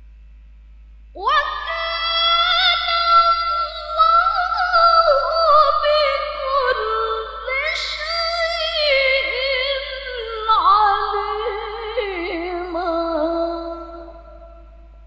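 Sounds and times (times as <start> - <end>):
woman chanting recitation: 1.2 - 14.5.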